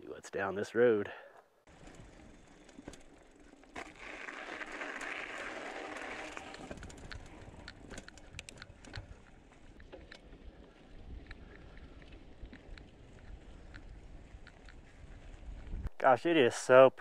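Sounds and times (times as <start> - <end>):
bike clicks and rattles: 1.7 - 15.8
bike tyres crunching on gravel: 1.7 - 15.9.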